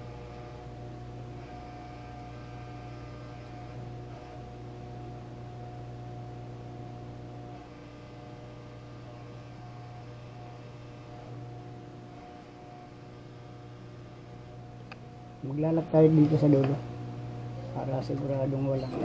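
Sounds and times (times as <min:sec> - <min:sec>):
sewing machine motor hum: 0:00.0 - 0:19.0.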